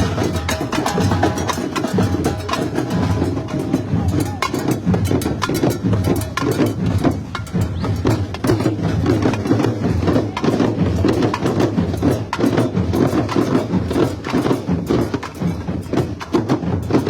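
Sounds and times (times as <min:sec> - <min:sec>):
percussion-driven carnival music: 0:00.0 - 0:17.0.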